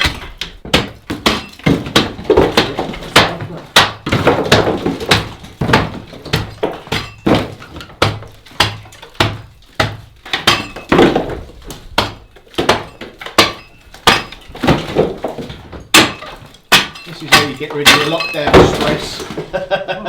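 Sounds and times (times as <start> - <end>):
clatter of breaking material: 0.0 - 19.7.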